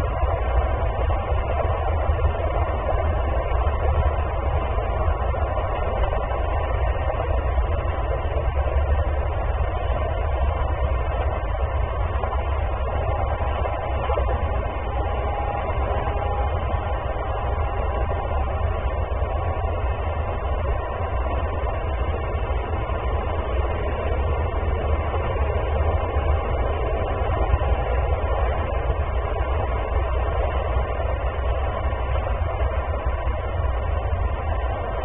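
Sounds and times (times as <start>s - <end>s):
low rumbling background noise: 0.0s - 35.0s.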